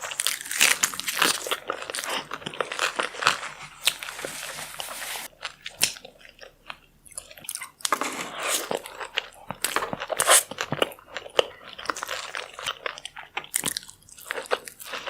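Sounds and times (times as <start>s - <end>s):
chewing crunchy food: 0.0s - 15.0s.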